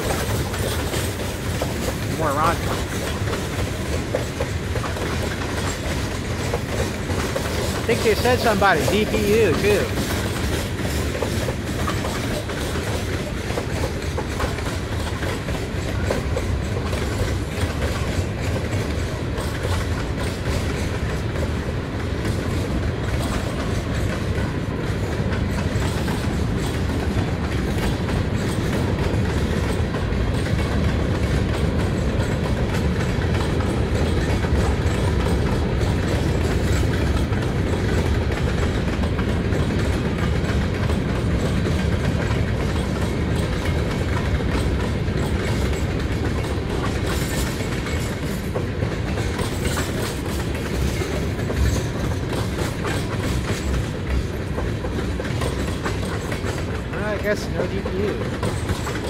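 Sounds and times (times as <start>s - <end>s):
freight train rumbling past: 0.0s - 59.0s
wheels clicking over rail joints: 0.0s - 59.0s.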